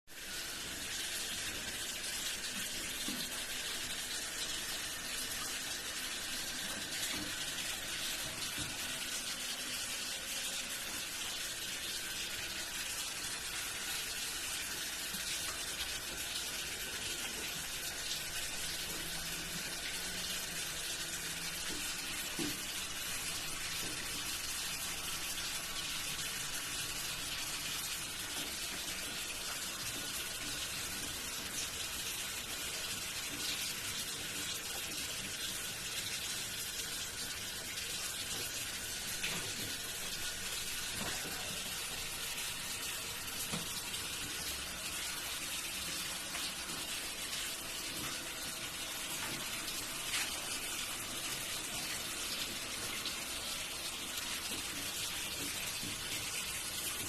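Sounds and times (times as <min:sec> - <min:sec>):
running water hissing: 0:00.0 - 0:57.0.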